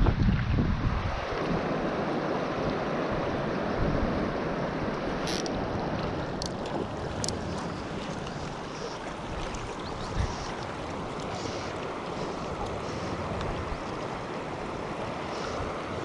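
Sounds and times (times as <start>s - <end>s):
river current rushing: 0.8s - 16.0s.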